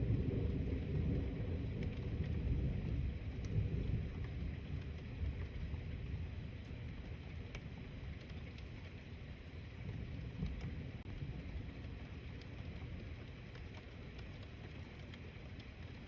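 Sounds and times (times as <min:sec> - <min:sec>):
low thunder rumble: 0:00.0 - 0:16.0.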